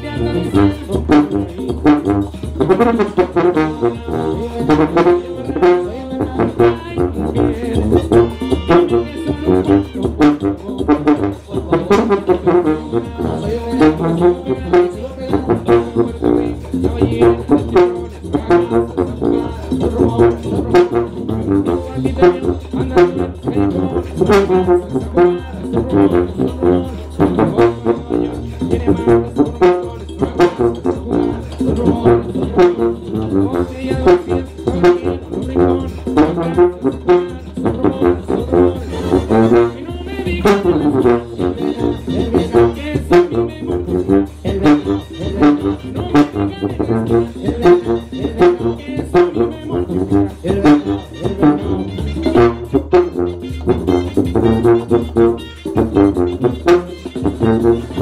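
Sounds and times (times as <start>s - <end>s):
recorded brass band music: 0.0s - 58.0s
sousaphone bass line: 0.0s - 58.0s.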